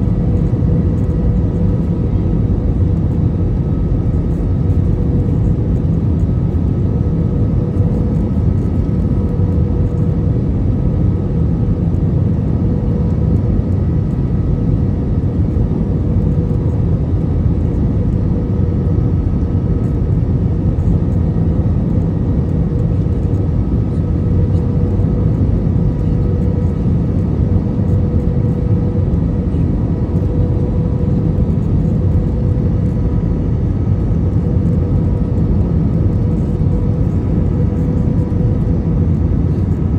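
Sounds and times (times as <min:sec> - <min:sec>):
airplane cabin rumble: 0:00.0 - 0:39.9
faint constant whine: 0:00.0 - 0:39.9.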